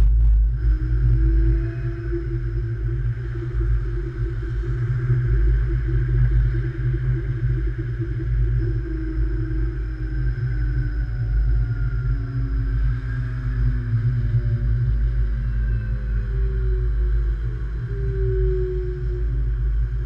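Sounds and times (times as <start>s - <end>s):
faint steady hum: 0.0s - 20.0s
thin high whine: 0.0s - 20.0s.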